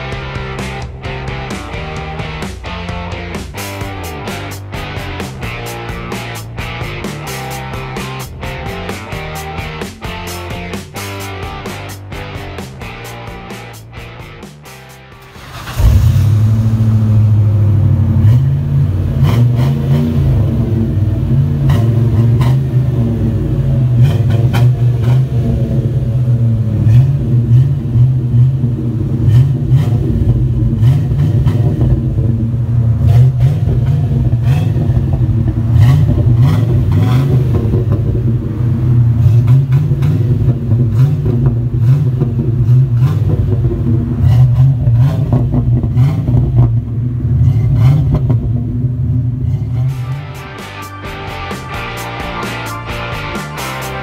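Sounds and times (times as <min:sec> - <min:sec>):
engine running through exhaust: 0:00.0 - 0:54.0.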